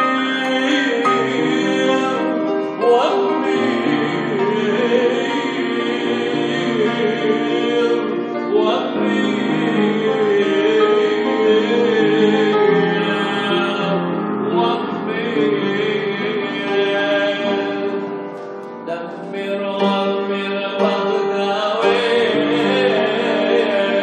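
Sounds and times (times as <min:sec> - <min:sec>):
man singing a hymn: 0:00.0 - 0:18.1, 0:18.8 - 0:24.0
keyboard accompaniment: 0:00.0 - 0:24.0.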